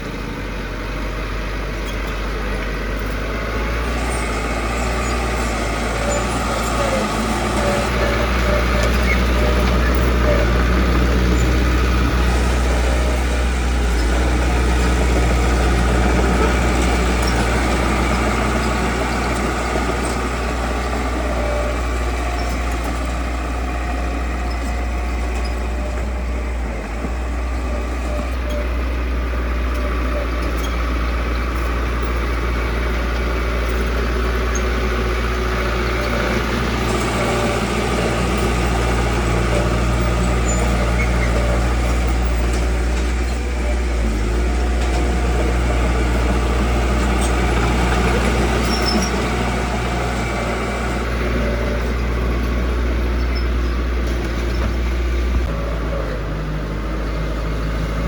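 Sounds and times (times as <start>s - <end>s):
heavy machine engine rumbling: 0.0s - 58.0s.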